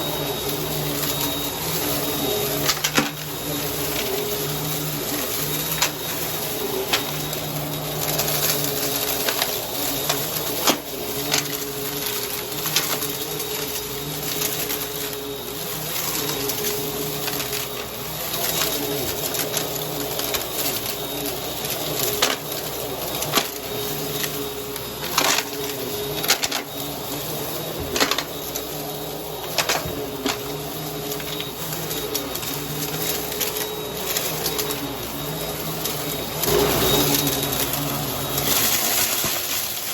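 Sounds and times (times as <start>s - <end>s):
debris crackling in vacuum: 0.0s - 39.9s
vacuum cleaner running: 0.0s - 39.9s.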